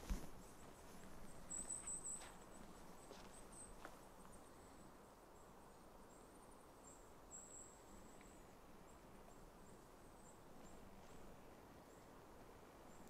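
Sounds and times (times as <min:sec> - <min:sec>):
faint forest ambience: 0:00.0 - 0:13.0.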